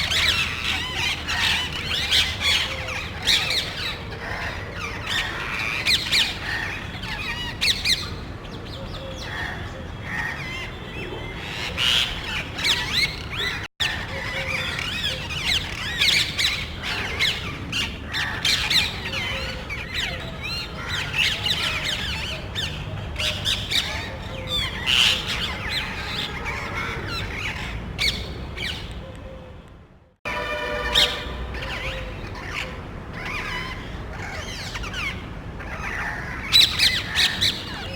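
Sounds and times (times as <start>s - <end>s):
parrots squawking: 0.0s - 8.2s, 11.4s - 28.9s, 30.3s - 37.9s.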